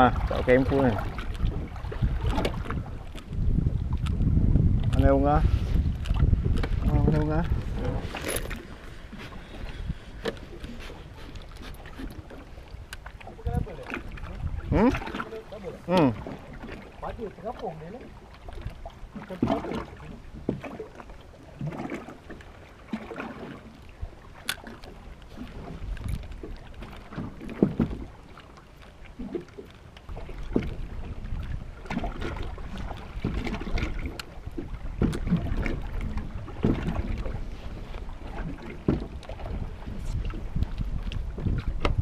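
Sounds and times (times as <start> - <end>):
wind rumble on microphone: 0.0 - 22.4, 23.4 - 28.4, 29.0 - 42.0
water lapping against boat hull: 0.0 - 42.0.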